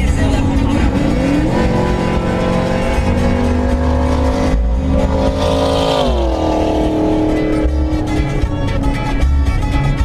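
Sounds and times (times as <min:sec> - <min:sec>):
road noise: 0:00.0 - 0:10.0
truck engine noise: 0:00.0 - 0:10.0.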